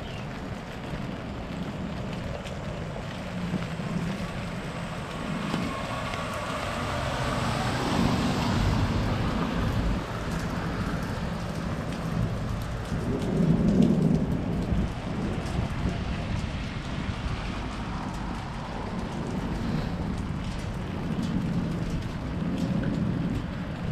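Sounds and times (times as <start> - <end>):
car tyres hissing on wet street: 0.0 - 23.9
low thunder rumble: 0.0 - 23.9
rain falling on pavement: 0.0 - 23.9.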